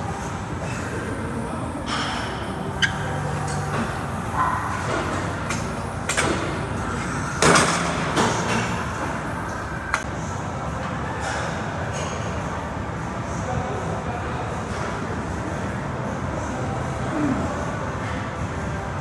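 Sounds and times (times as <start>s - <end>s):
steady background rush: 0.0s - 19.0s.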